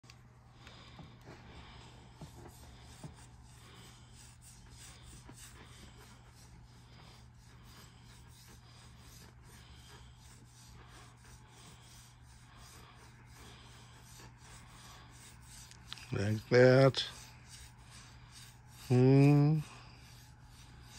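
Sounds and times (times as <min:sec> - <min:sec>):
back scratcher rubbing fur: 0:00.7 - 0:20.9.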